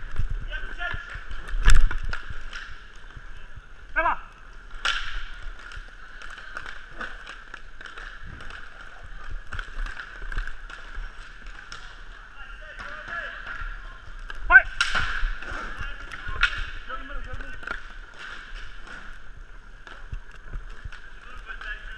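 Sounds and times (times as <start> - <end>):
hockey sticks and puck clacking: 0.0 - 21.9
skate wheels rolling: 0.0 - 21.9.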